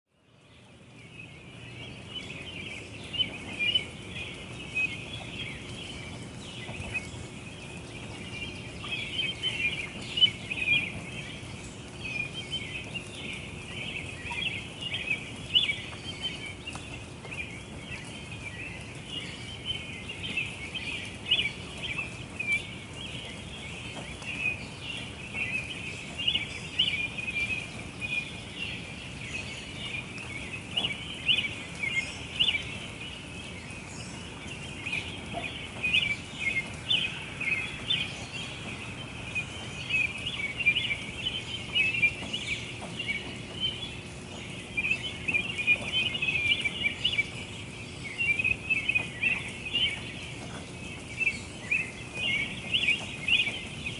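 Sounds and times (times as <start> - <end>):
small birds chirping: 0.1 - 53.9.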